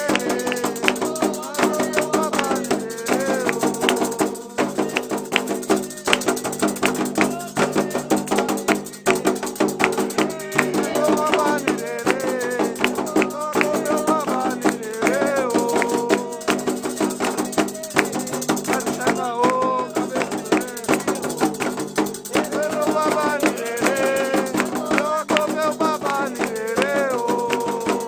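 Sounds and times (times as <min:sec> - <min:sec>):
percussion and rattles: 0:00.0 - 0:28.0
voices singing a chant: 0:00.0 - 0:28.0.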